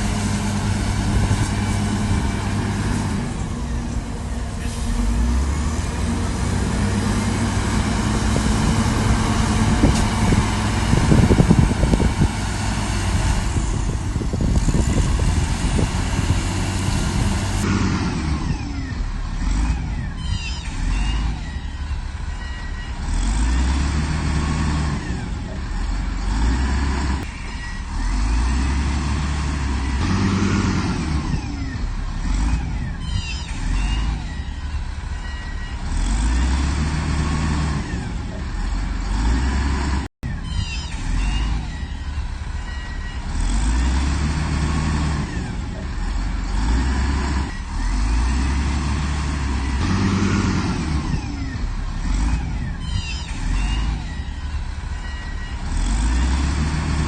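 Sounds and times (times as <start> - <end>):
diesel engine of earthmover: 0.0 - 57.0.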